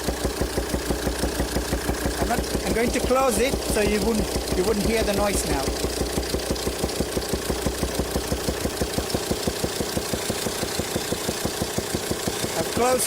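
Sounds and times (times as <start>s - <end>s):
diesel engine idling: 0.0s - 13.0s
rapid popping from engine intake: 0.0s - 13.0s.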